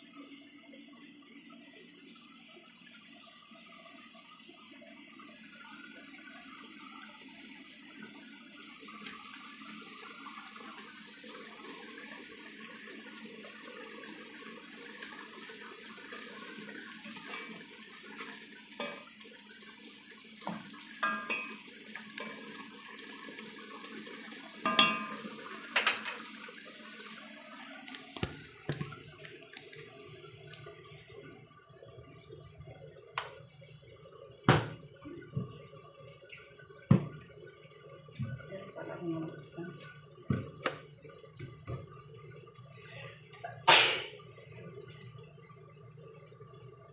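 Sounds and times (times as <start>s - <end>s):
sauce bubbling in a pot: 0.0s - 46.9s.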